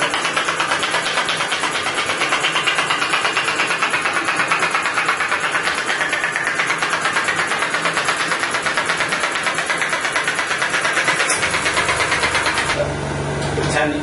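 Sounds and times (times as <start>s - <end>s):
mechanical buzzing rattle: 0.0s - 12.9s.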